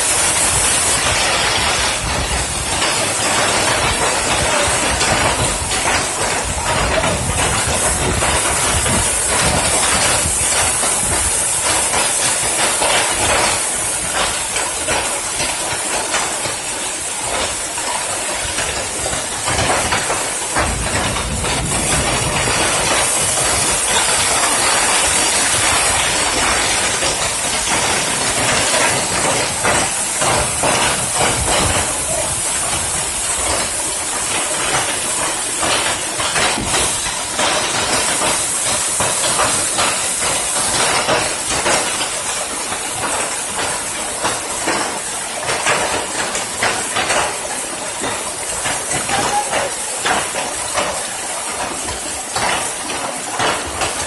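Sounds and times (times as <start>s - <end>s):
hailstones hitting hard surfaces: 0.0s - 54.0s
heavy rain hiss: 0.0s - 54.0s.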